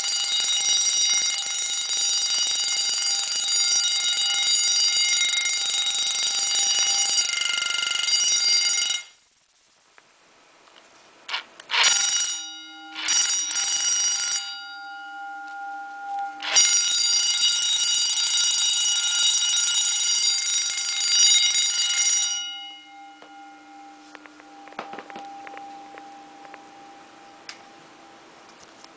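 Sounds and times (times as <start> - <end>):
electric alarm bell ringing: 0.0 - 9.2, 11.7 - 28.5.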